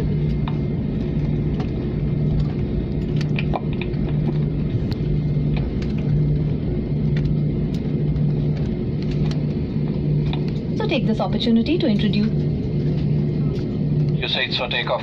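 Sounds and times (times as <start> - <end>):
deep hum: 0.0 - 15.0
jet cabin drone: 0.0 - 15.0.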